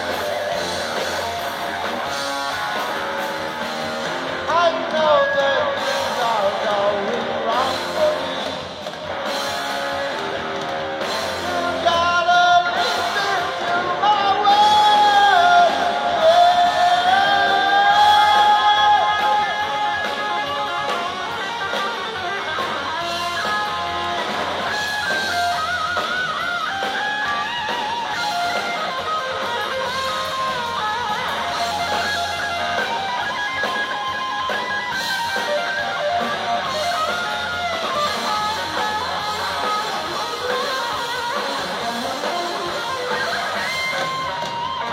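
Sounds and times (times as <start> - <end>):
guitar-led music: 0.0 - 44.9.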